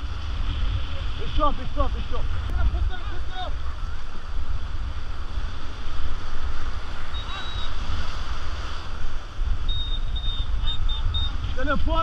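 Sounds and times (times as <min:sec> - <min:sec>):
river water rushing: 0:00.0 - 0:10.2
wind buffeting microphone: 0:00.0 - 0:12.0.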